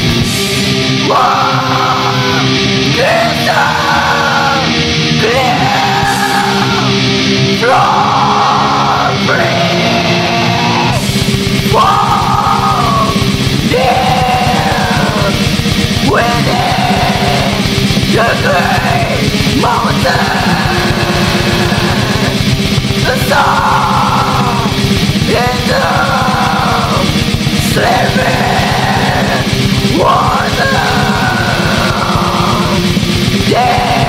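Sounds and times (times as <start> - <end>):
distorted metal band playing: 0.0 - 34.0
harsh screamed vocals: 0.9 - 34.0.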